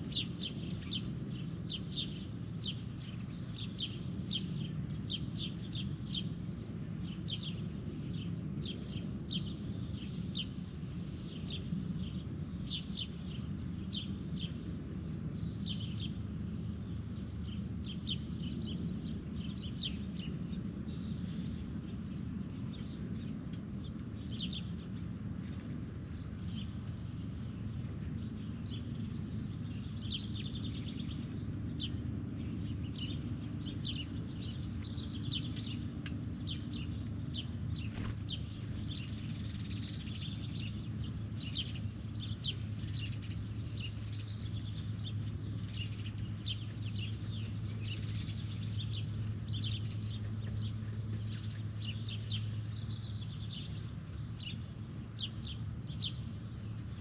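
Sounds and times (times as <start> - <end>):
steady low hum: 0.0 - 57.0
wild birds chirping: 0.0 - 57.0.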